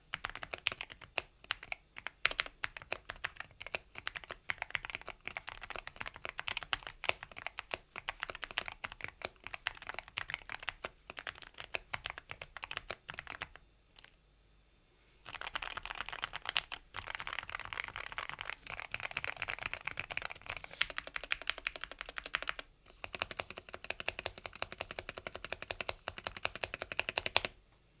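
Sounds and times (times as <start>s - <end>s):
fast typing on mechanical keyboard: 0.0s - 14.2s, 15.2s - 27.6s.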